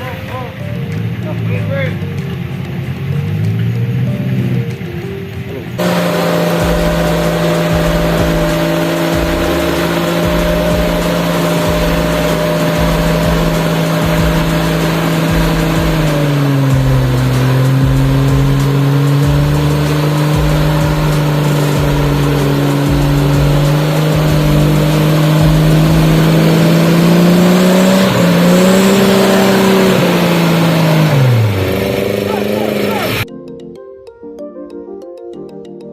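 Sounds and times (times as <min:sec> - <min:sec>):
engine running under load: 0:00.0 - 0:33.2.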